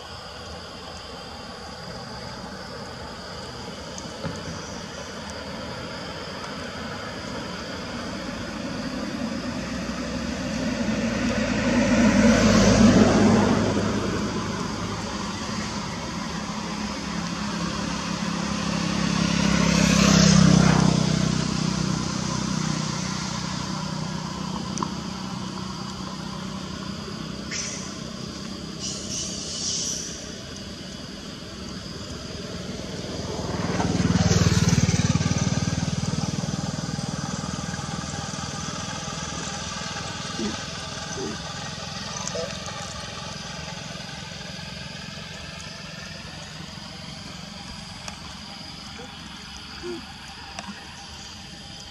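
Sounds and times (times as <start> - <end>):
vehicles passing: 0.2 - 51.9.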